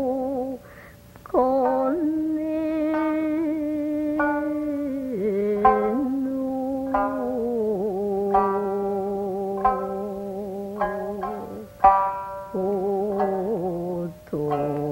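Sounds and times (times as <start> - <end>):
person singing long held notes: 0.0 - 14.9
plucked string accompaniment: 0.0 - 14.9.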